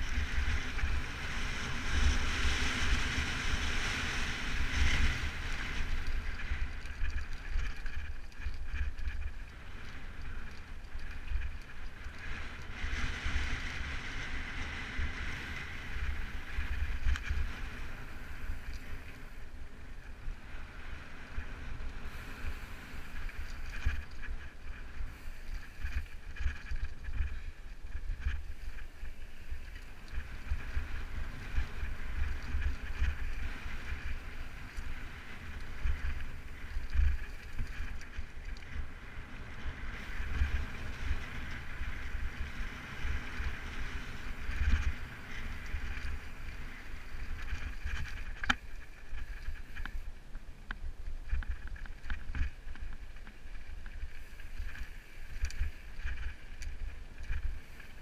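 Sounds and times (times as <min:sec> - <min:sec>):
bike tyres rattling on dirt trail: 0:00.0 - 0:58.0
wind on microphone: 0:00.0 - 0:58.0.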